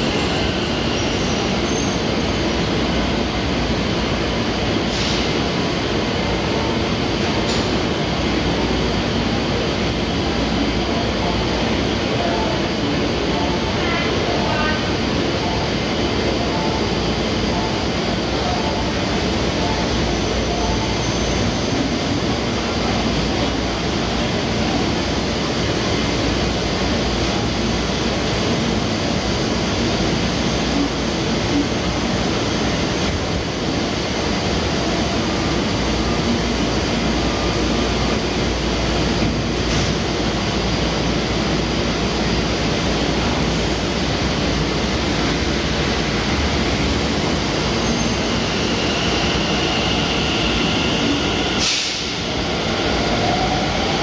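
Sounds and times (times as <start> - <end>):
train rumble and hiss: 0.0 - 54.0.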